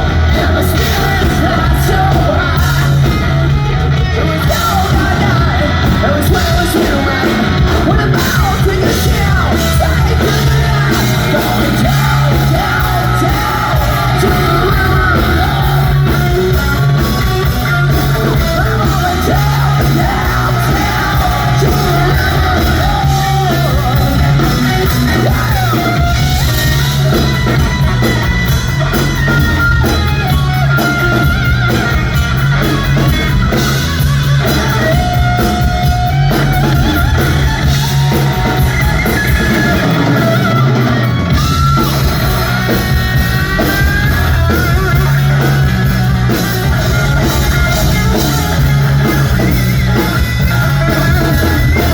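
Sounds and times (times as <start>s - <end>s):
electric guitar: 0.0s - 51.9s
person singing: 0.0s - 51.9s
rock band playing: 0.0s - 51.9s.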